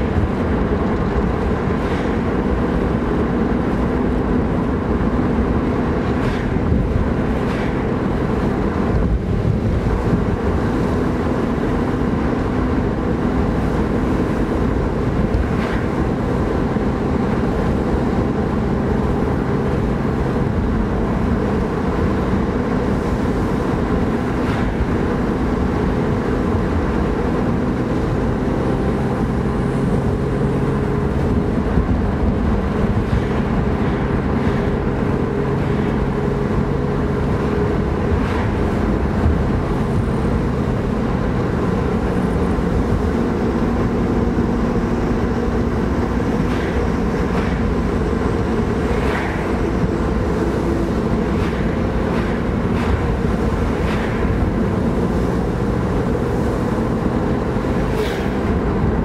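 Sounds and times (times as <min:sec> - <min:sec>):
car engine cruising: 0:00.0 - 0:59.0
tyre and road noise: 0:00.0 - 0:59.0.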